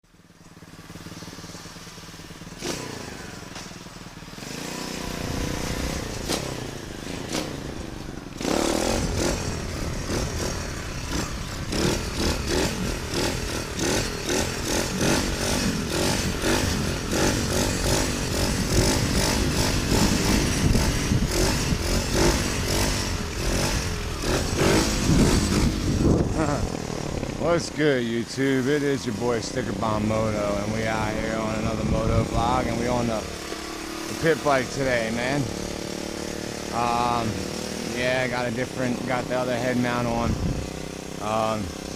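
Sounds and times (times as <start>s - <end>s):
pit bike engine revving: 0.1s - 41.9s.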